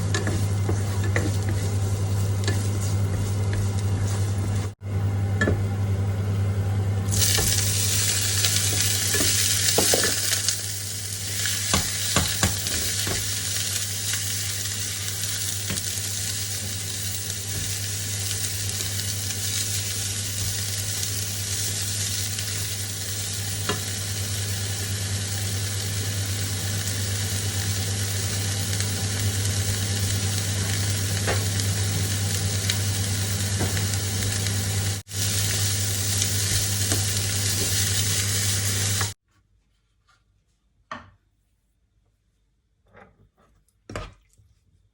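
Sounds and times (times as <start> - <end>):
food sizzling in oil: 0.0 - 4.8, 7.1 - 39.2.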